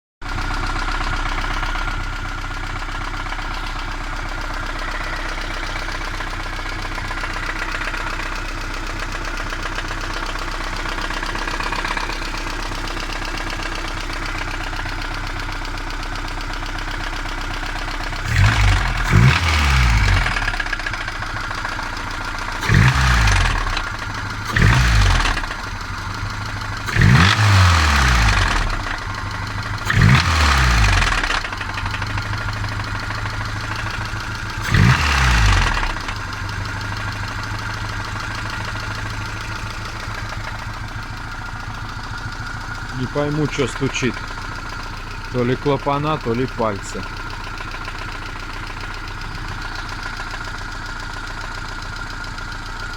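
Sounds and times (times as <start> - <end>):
car engine idling with knock: 0.2 - 52.9
engine revving: 0.3 - 52.3.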